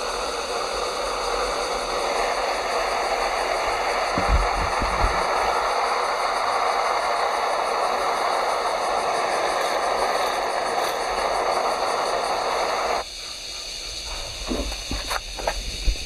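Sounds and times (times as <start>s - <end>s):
stove burner hissing: 0.0s - 16.0s.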